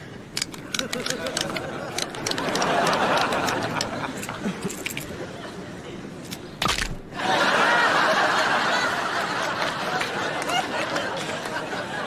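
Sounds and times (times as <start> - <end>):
studio audience laughing: 0.8 - 6.0, 7.1 - 12.0.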